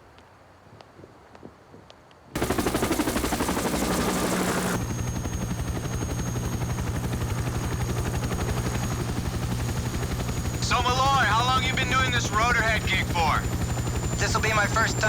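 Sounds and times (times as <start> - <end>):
helicopter rotor chopping: 2.4 - 15.0
high turbine whine: 2.4 - 15.0.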